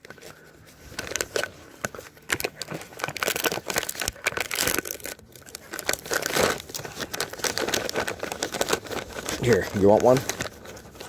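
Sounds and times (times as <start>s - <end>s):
plastic package crinkling and tearing: 0.0s - 11.0s.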